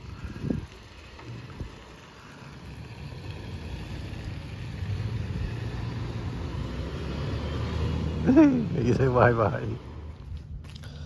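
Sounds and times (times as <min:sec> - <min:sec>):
vehicle engine running: 0:00.0 - 0:10.6.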